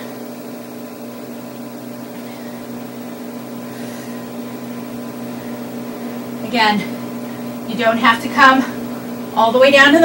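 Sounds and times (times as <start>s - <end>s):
background hum with hiss: 0.0s - 10.0s.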